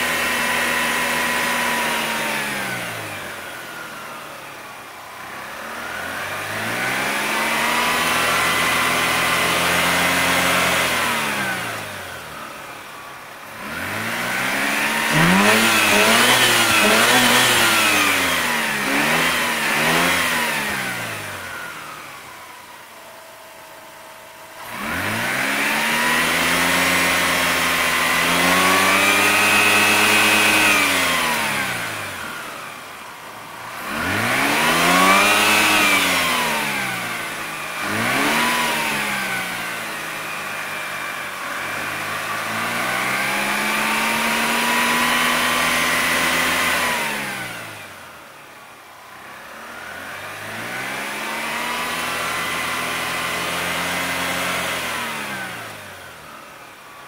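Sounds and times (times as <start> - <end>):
rotary engine revving: 0.0 - 57.0.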